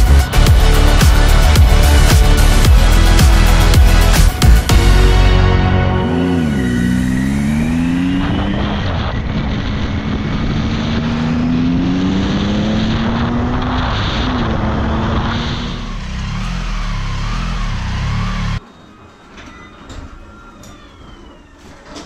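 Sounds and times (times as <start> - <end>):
motorcycle engine accelerating: 0.0 - 18.6.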